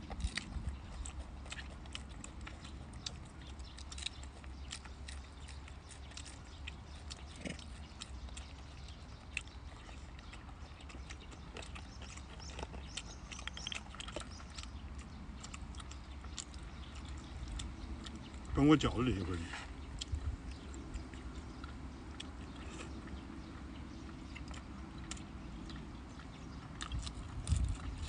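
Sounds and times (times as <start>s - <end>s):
monkeys chewing and smacking: 0.0s - 28.0s
steady low hum: 0.0s - 28.0s.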